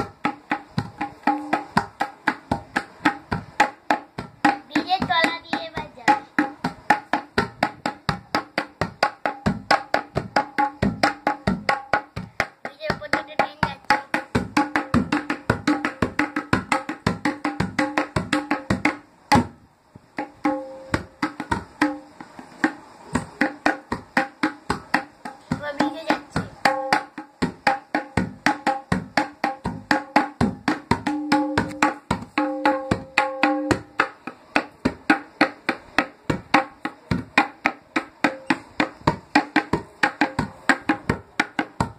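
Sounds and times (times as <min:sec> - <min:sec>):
tabla drumming: 0:00.0 - 0:19.6, 0:20.2 - 0:41.9.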